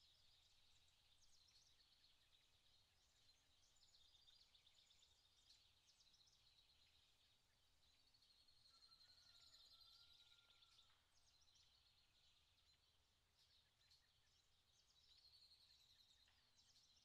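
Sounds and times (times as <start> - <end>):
small birds chirping and trilling: 0.0 - 17.0.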